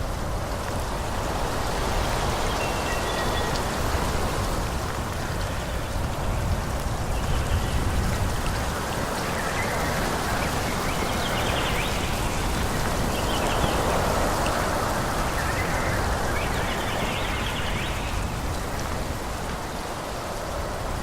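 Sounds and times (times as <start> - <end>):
wind blowing through trees: 0.0 - 21.0.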